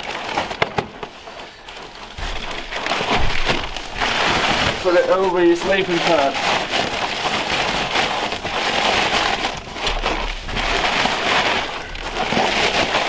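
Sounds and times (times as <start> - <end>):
nylon rustling and crinkling: 0.0 - 13.0.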